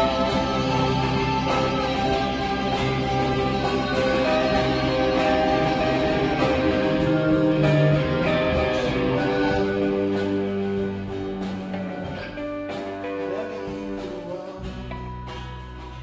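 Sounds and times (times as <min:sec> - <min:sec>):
live guitar music: 0:00.0 - 0:16.0
steady beat: 0:00.0 - 0:16.0.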